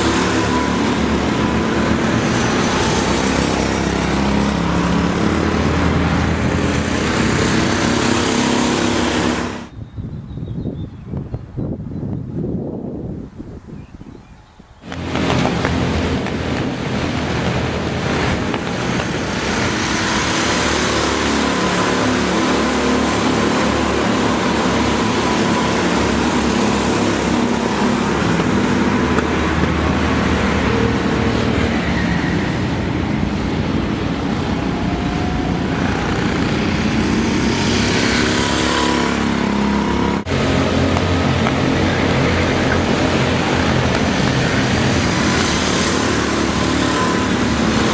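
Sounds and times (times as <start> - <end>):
go-kart engine running hard: 0.0 - 9.8, 14.8 - 47.9
wind and road noise: 0.0 - 47.9.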